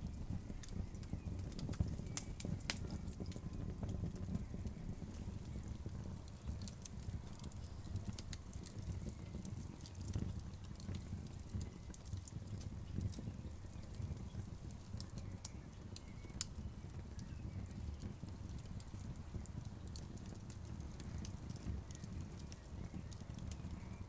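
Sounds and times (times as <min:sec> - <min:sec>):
burning logs crackling: 0:00.0 - 0:24.0.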